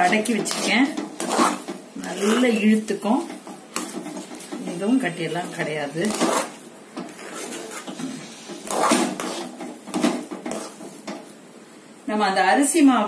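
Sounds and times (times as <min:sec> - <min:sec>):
spoon scraping and knocking pan: 0:00.0 - 0:07.2, 0:07.8 - 0:11.4.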